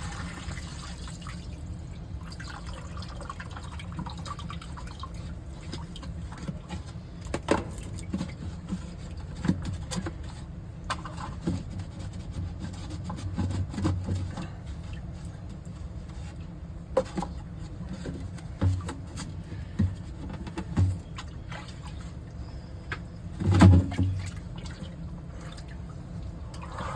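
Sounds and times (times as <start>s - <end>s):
steady low hum: 1.2s - 26.9s.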